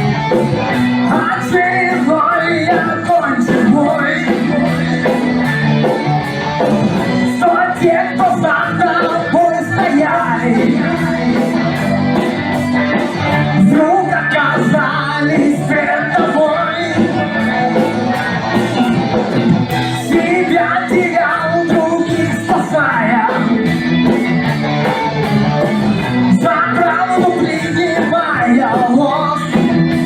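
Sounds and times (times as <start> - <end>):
rock guitar: 0.0 - 30.0
person singing: 0.3 - 5.4, 7.1 - 24.2, 25.6 - 30.0.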